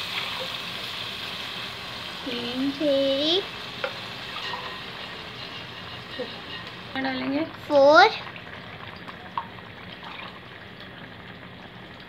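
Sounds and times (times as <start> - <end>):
water sizzling in hot pot: 0.0 - 12.0.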